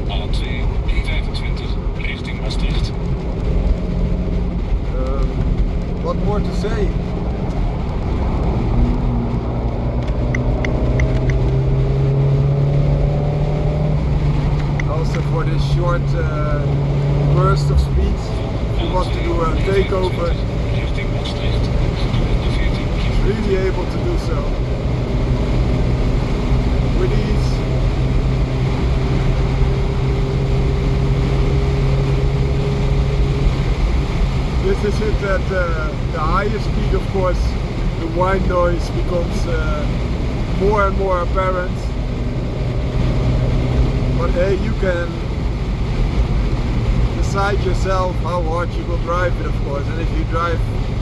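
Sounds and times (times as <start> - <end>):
car engine from inside: 0.0 - 51.0
road and wind noise: 0.0 - 51.0.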